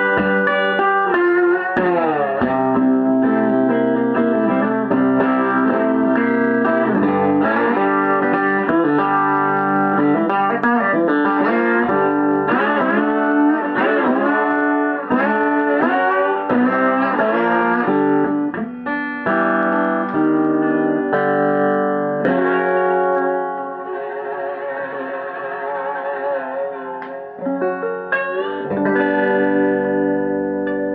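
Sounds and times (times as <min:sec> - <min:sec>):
electric guitar blues lead: 0:00.0 - 0:30.9.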